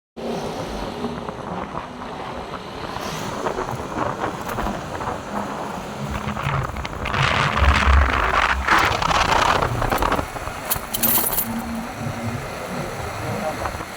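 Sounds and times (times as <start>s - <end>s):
road traffic rumble: 0.2s - 13.9s
wind buffeting microphone: 0.2s - 13.9s.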